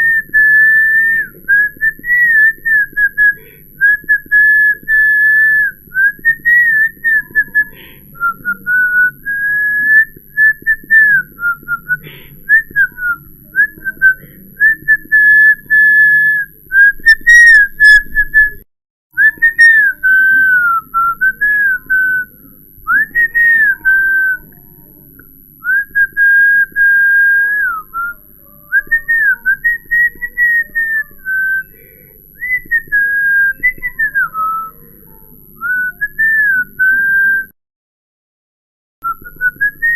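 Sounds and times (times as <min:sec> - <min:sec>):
person whistling a tune: 0:00.0 - 0:18.6, 0:19.2 - 0:22.3, 0:22.9 - 0:24.6, 0:25.6 - 0:34.8, 0:35.6 - 0:37.6, 0:39.0 - 0:39.9.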